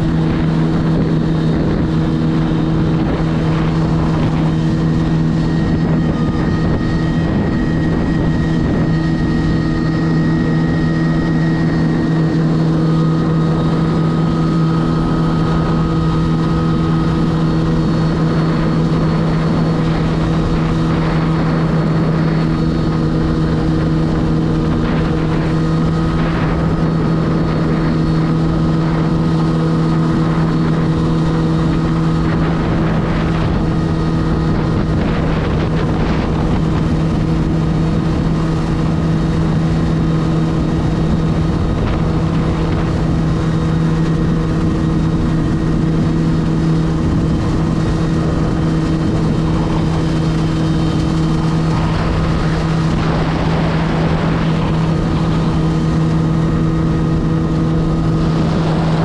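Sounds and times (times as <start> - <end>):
jet ski engine hum: 0.0 - 59.0
water rushing: 0.0 - 59.0.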